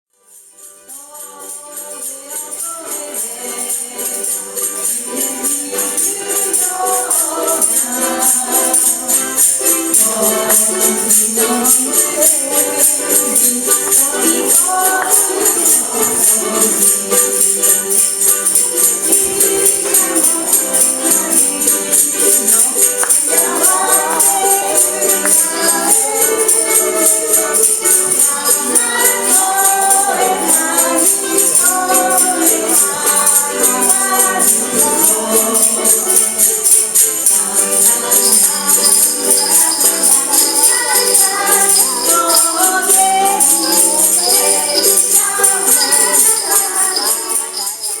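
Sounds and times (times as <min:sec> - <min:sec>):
tambourine jingling: 0:00.2 - 0:48.0
ukulele ensemble strumming: 0:00.2 - 0:48.0
group of voices singing: 0:00.9 - 0:48.0.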